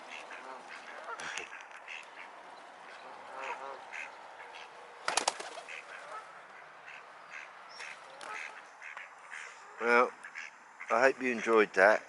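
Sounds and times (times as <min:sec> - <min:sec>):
geese honking: 0:00.0 - 0:04.8, 0:05.5 - 0:11.6
ducks quacking: 0:00.0 - 0:04.9, 0:05.5 - 0:11.8.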